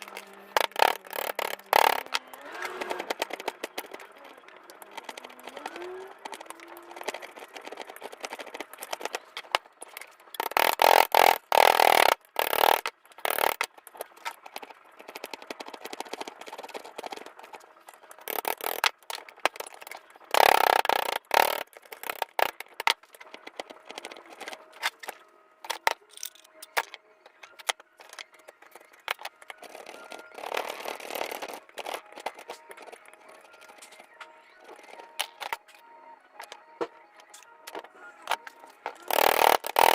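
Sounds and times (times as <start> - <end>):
handling clicks and knocks: 0.0 - 39.9.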